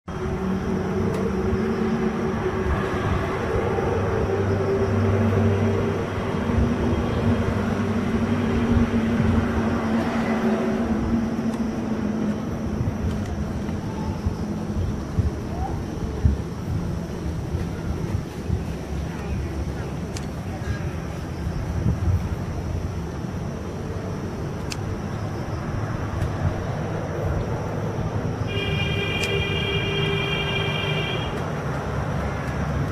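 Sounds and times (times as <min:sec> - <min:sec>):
wind buffeting microphone: 0:00.1 - 0:30.6.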